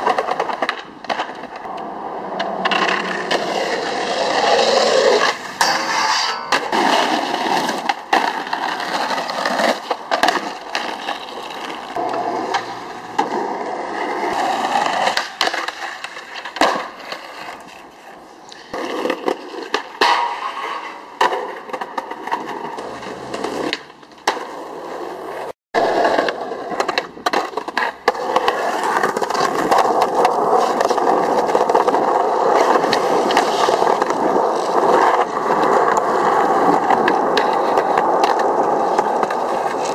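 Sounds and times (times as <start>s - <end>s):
skateboard popping and landing: 0.0s - 39.9s
skateboard trucks grinding on ledge: 0.0s - 39.9s
skateboard wheels rolling on concrete: 0.0s - 39.9s.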